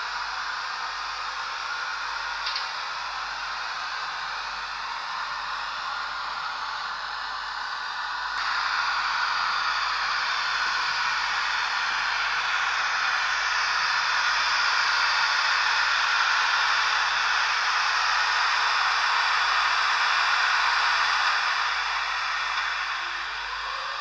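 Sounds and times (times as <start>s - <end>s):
model train wheels hissing: 0.0s - 24.0s.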